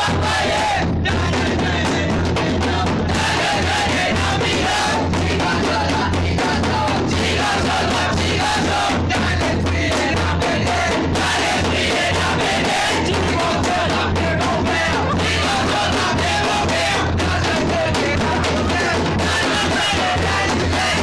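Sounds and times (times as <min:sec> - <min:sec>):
crowd chanting and shouting: 0:00.0 - 0:21.0
fast loud drumming: 0:00.0 - 0:21.0.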